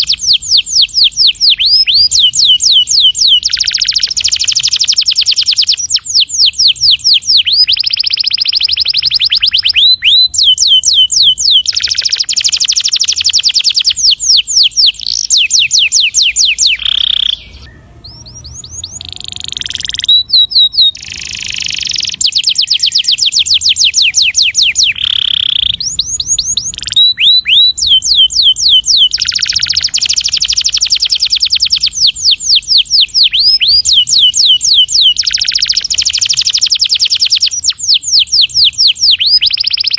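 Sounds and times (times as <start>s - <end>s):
canary singing in rolling trills: 0.0s - 39.9s.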